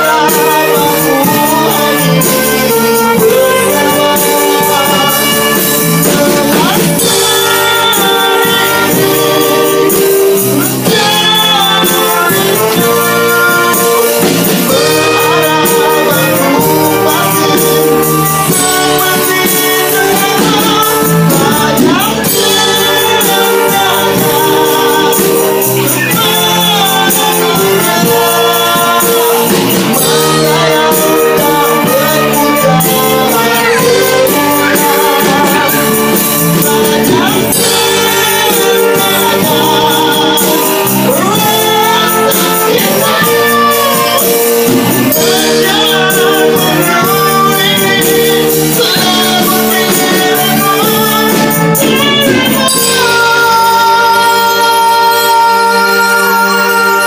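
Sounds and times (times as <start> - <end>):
live band playing: 0.0 - 57.0
man singing into a microphone: 0.0 - 57.0.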